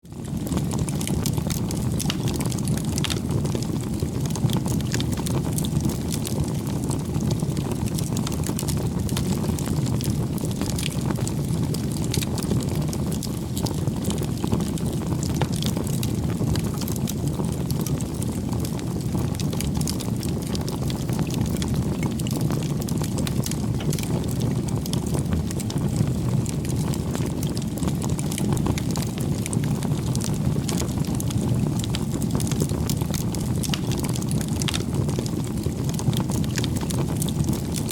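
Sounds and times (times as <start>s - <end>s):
low fire rumble: 0.0s - 37.9s
bonfire crackling and popping: 0.1s - 37.9s.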